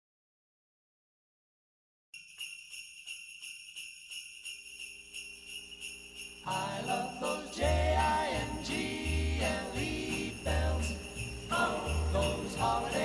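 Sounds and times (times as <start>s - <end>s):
sleigh bells shaken rhythmically: 2.2s - 13.0s.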